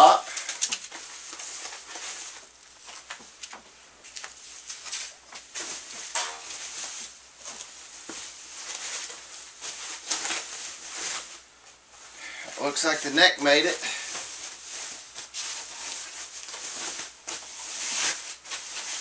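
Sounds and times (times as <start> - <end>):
packing material rustling: 0.3 - 19.0.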